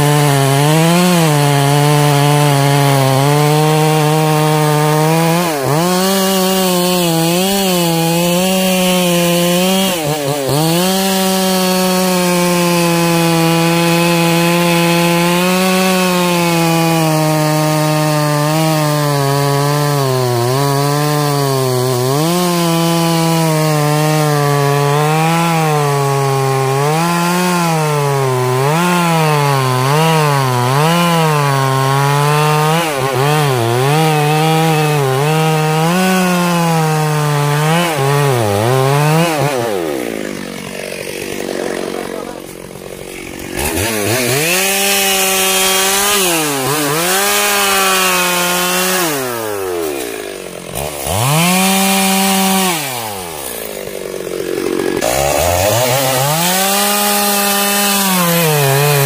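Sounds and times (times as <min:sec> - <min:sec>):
chainsaw cutting and revving: 0:00.0 - 0:59.0.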